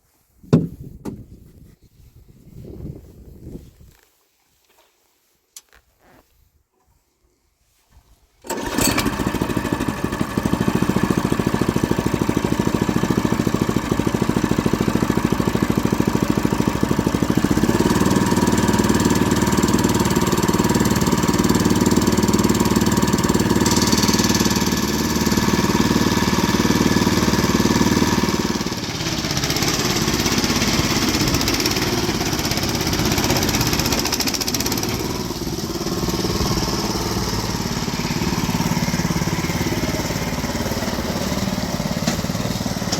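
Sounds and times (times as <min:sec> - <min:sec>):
small engine running rattly: 0:08.5 - 0:42.9.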